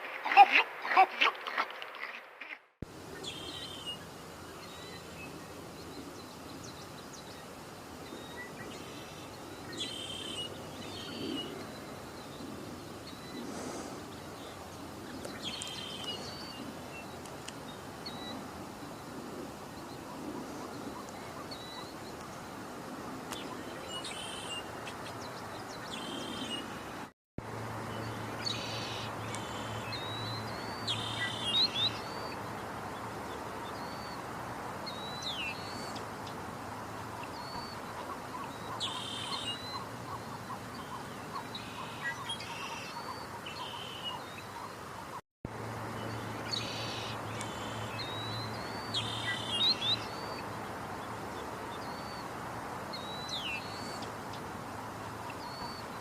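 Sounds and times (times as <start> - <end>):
wild birds chirping and chattering: 0.0 - 45.2, 45.8 - 56.0
steady outdoor hiss: 0.0 - 56.0.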